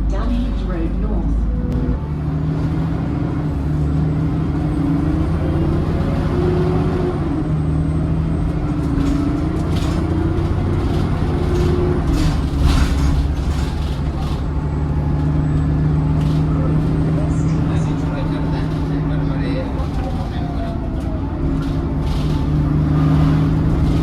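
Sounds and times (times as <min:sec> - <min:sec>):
bus engine drone with whine: 0:00.0 - 0:24.0.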